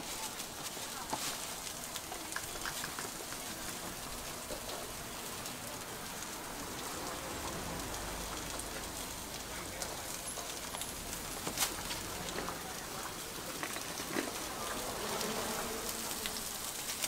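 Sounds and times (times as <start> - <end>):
faint crackles and clicks: 0.0 - 17.0
food sizzling on hot plate: 0.0 - 17.0.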